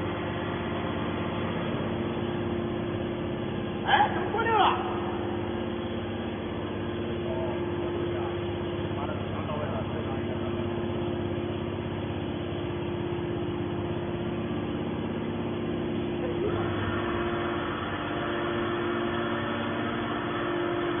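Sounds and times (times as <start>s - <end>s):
hydraulic baler pump humming: 0.0s - 21.0s.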